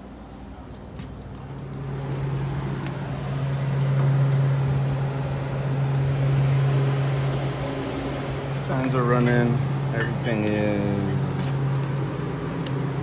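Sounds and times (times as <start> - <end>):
fan motors humming: 0.0 - 13.0.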